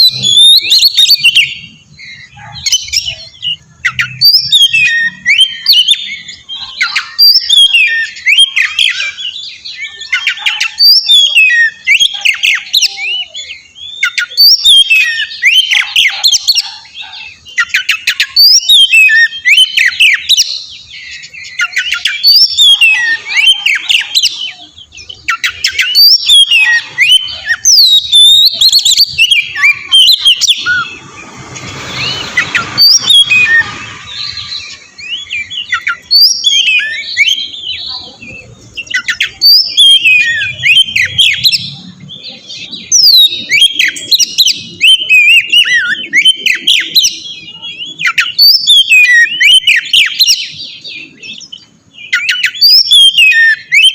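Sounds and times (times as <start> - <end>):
bird singing whistled phrases: 0.0 - 31.1, 31.7 - 53.9.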